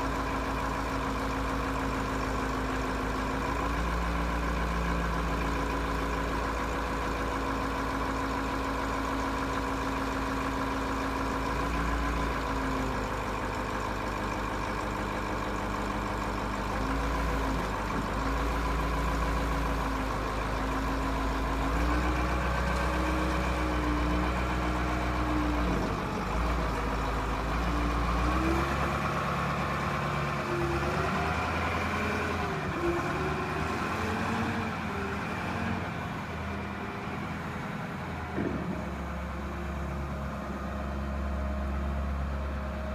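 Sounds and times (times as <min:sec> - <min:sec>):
diesel engine running and revving: 0:00.0 - 0:42.9.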